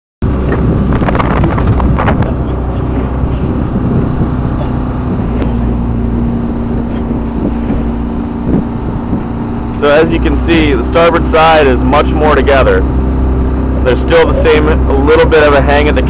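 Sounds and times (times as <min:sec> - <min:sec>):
outboard motor running: 0:00.2 - 0:16.0
wind buffeting microphone: 0:00.2 - 0:16.0.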